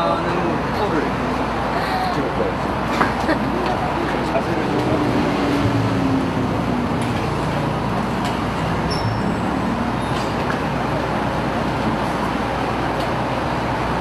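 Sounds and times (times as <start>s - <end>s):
distant road traffic hum: 0.0s - 14.0s.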